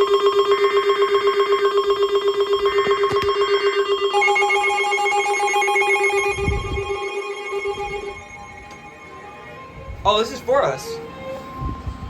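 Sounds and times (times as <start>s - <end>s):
pulsing alert alarm tone: 0.0s - 10.0s
higher alarm tone: 0.0s - 12.0s.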